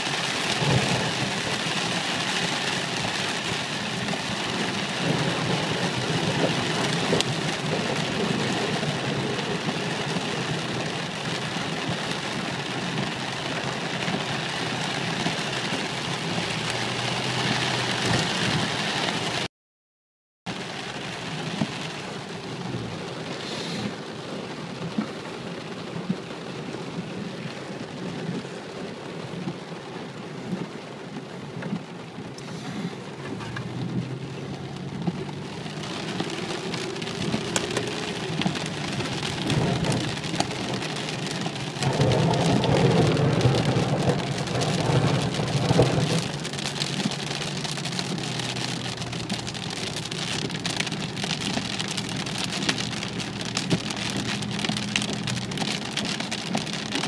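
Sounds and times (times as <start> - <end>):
heavy rain on car roof: 0.0 - 19.5, 20.5 - 57.0.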